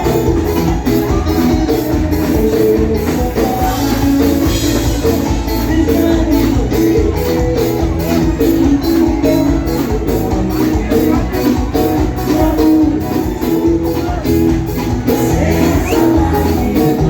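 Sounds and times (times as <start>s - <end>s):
loud bass-heavy music: 0.0s - 17.0s.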